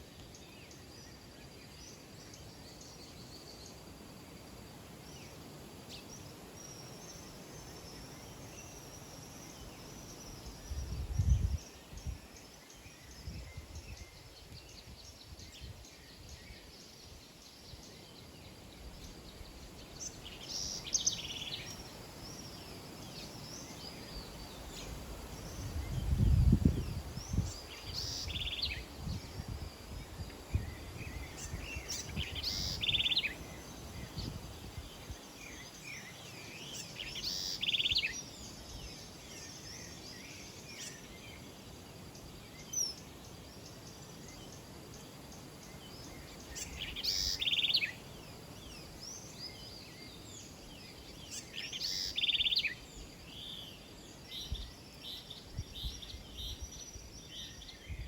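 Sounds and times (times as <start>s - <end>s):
small birds trilling: 0.0s - 58.0s.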